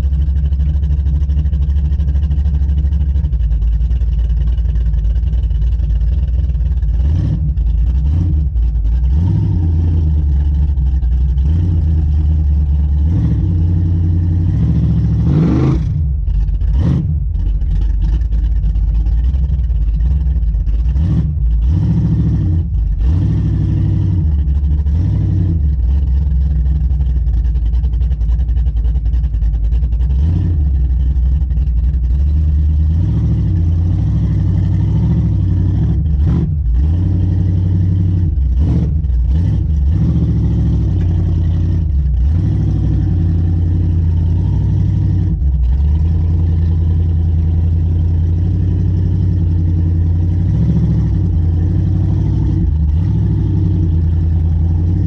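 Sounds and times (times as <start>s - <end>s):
vehicle engine revving while driving: 0.0s - 55.0s.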